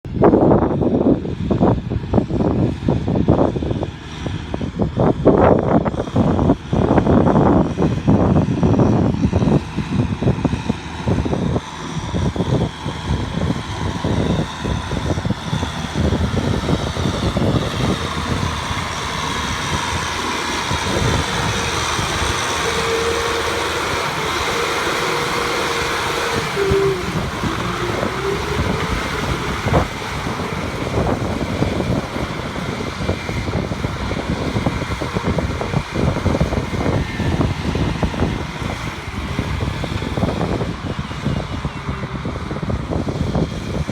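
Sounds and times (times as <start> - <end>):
wind buffeting microphone: 0.0 - 43.9
farm machine engine running: 0.8 - 43.9
steady whine: 4.8 - 43.9.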